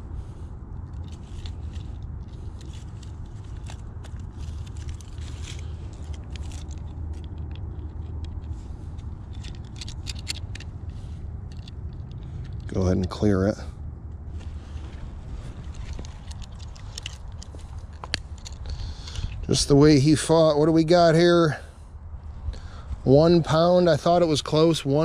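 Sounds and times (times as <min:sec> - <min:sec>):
rustling and scraping handling noise: 0:00.0 - 0:20.7
steady low rumble: 0:00.0 - 0:25.0.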